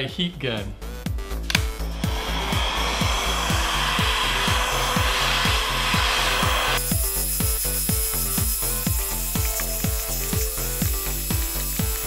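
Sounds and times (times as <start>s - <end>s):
background music with beat: 0.0s - 12.0s
heat gun blowing hiss: 1.6s - 12.0s.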